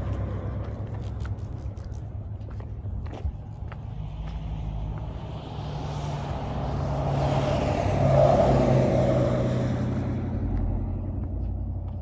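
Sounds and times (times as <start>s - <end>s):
vehicle engine running: 0.0s - 7.4s, 9.6s - 12.0s
road noise: 0.0s - 12.0s.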